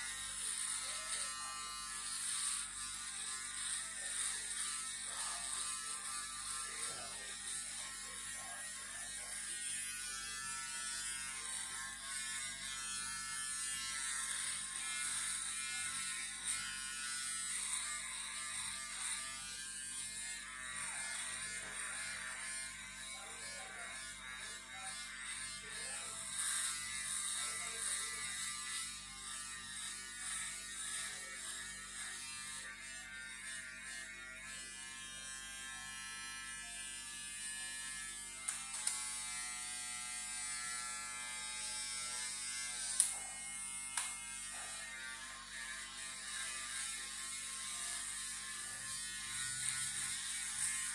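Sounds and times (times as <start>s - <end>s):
electric trimmer buzzing: 0.0s - 50.9s.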